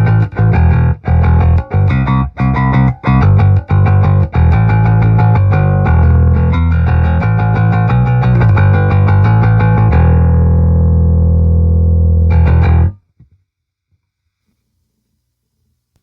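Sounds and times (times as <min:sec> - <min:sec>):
electric bass plucked notes: 0:00.0 - 0:13.0.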